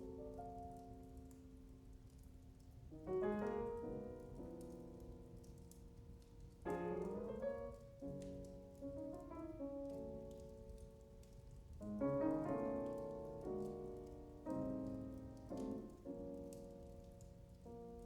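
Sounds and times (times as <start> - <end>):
piano chords ringing: 0.0 - 1.6, 2.9 - 18.0
jazz piano trio over loudspeakers: 0.0 - 2.1, 2.8 - 18.0
open fire crackling: 0.0 - 18.0.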